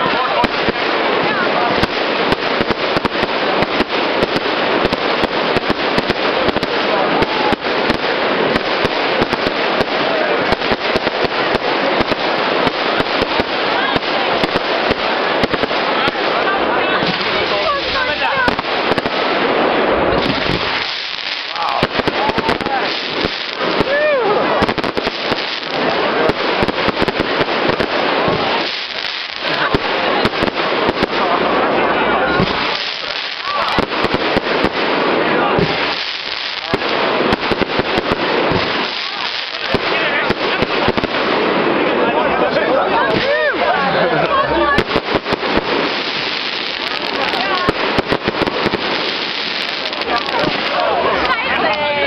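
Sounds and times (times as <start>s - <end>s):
fireworks crackling and banging: 0.0s - 52.0s.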